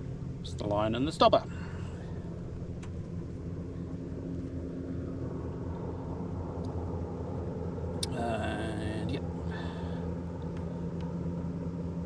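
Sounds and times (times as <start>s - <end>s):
faint constant hum: 0.0s - 12.0s
low engine drone: 0.0s - 12.0s.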